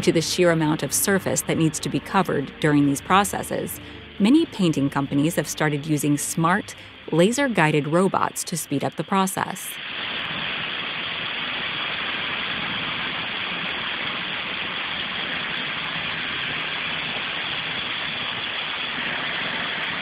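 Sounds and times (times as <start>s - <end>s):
high-pressure water jet hissing: 0.0s - 20.0s
low hum: 0.0s - 20.0s.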